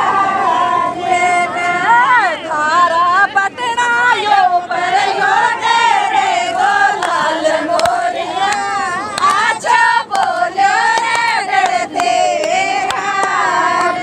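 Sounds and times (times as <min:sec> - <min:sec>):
crowd noise: 0:00.0 - 0:14.0
women singing folk song: 0:00.0 - 0:14.0.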